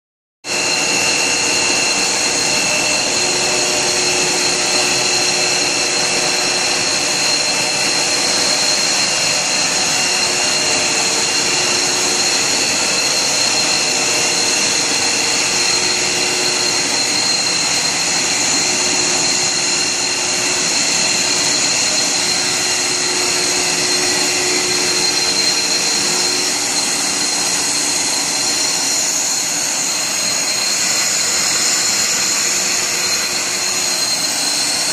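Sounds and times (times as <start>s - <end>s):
high-pitched whine: 0.4s - 34.9s
machinery whirring: 0.5s - 34.9s.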